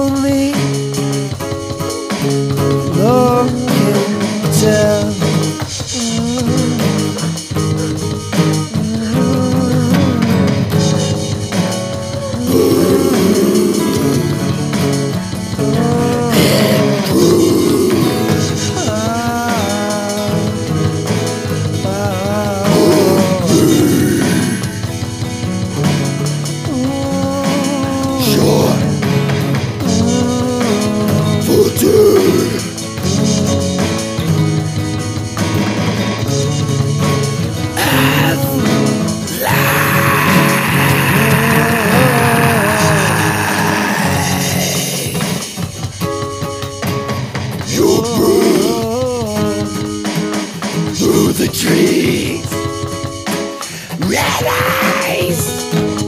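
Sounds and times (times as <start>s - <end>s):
drum kit: 0.0s - 56.0s
rock band instrumental: 0.0s - 56.0s.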